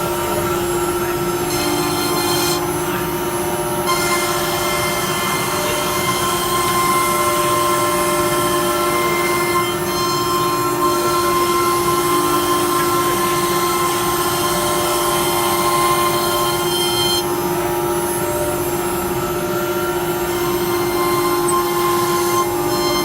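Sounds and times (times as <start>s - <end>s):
router machine whine: 0.0s - 23.0s.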